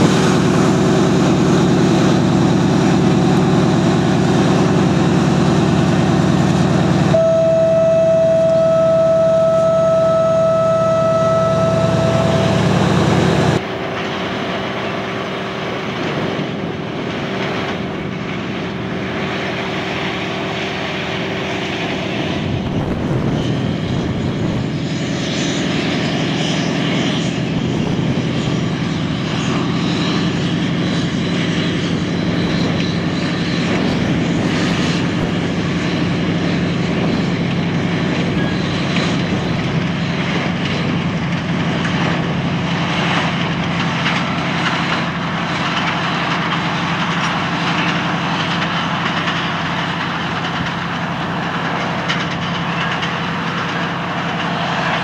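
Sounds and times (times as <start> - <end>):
diesel locomotive engine drone: 0.0 - 55.0.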